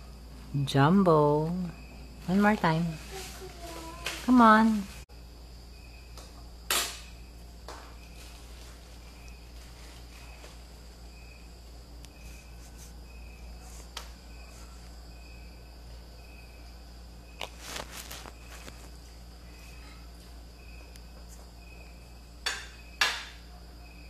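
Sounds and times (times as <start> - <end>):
faint cricket chirping: 0.0 - 24.0.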